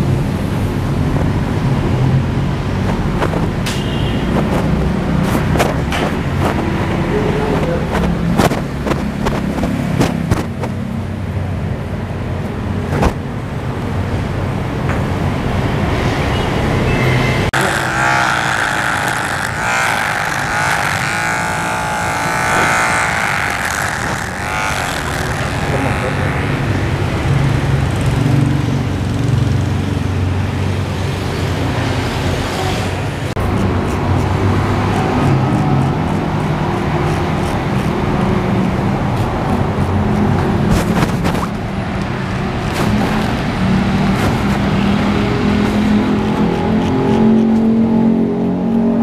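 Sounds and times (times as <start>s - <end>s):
vehicle engines rumbling: 0.0s - 49.0s.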